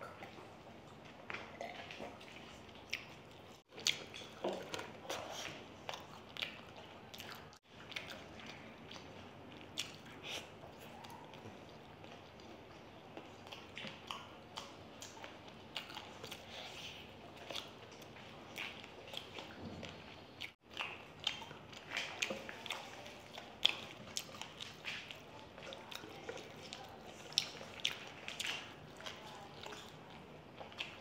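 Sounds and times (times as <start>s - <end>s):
people chewing and smacking: 0.0s - 31.0s.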